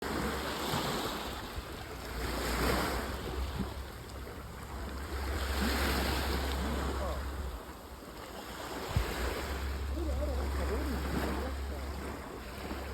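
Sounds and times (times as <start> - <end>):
sea waves washing on shore: 0.0 - 12.9
wind rumbling on microphone: 0.0 - 12.9.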